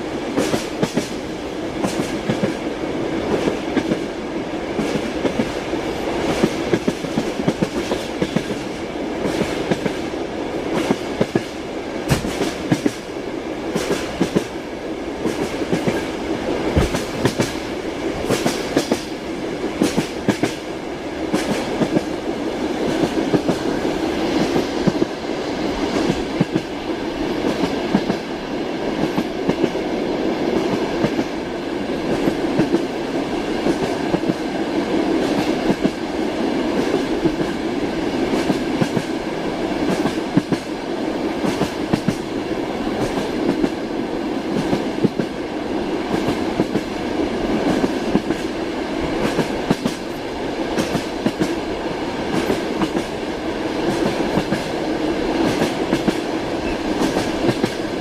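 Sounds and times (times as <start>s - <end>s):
train carriage rumble: 0.0s - 58.0s.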